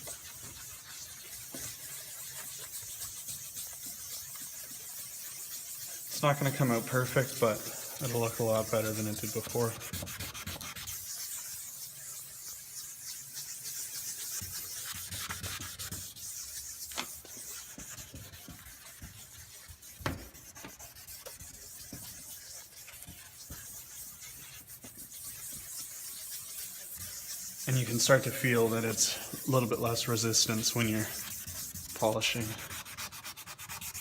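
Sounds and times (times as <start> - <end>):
abrasive pad scrubbing plastic: 0.0 - 34.0.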